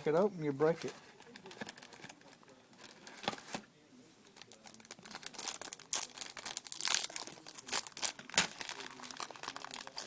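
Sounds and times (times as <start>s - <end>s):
plastic packaging crinkling: 0.6s - 3.6s, 4.3s - 10.0s.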